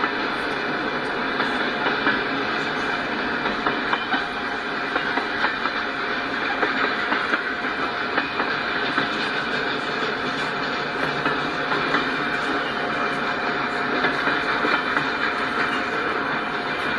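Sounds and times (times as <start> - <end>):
freight train rumbling: 0.0 - 16.9
wheels clacking on track: 0.0 - 16.9.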